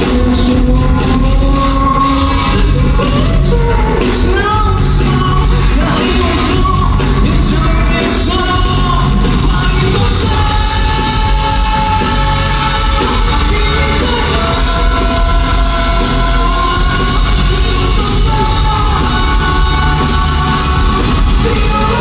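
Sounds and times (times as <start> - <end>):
live rock band: 0.0 - 22.0
singer holding long notes: 0.0 - 22.0.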